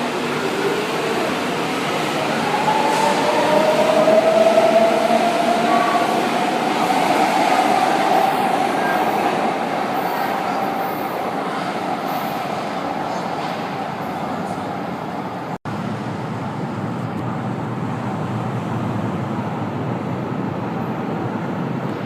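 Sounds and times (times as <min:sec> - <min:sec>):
train rolling noise: 0:00.0 - 0:22.0.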